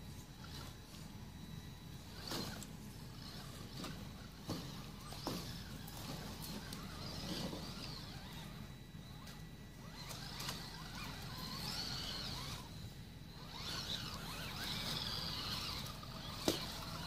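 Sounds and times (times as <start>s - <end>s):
toy truck electric motor whining: 0.0s - 17.0s.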